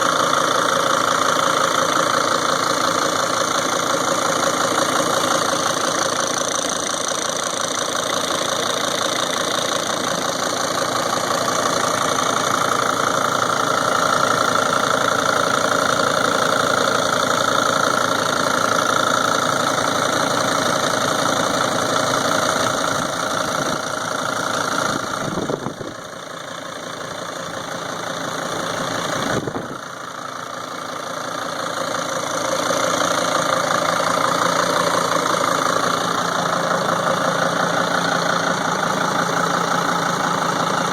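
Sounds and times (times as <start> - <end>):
van engine idling with knocking: 0.0 - 40.9.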